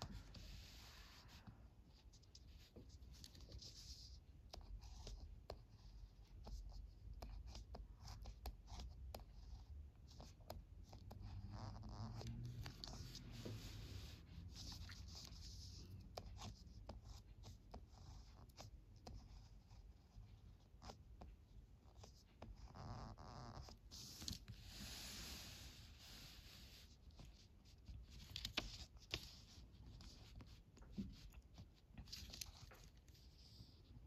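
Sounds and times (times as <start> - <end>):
pen scratching on paper: 0.0 - 33.8.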